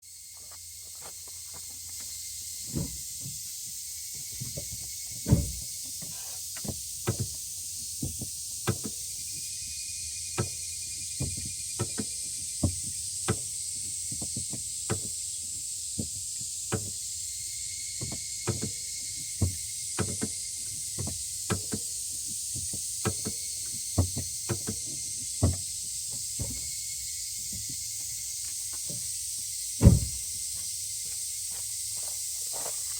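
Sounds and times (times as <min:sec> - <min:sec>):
steady hiss: 0:00.6 - 0:32.9.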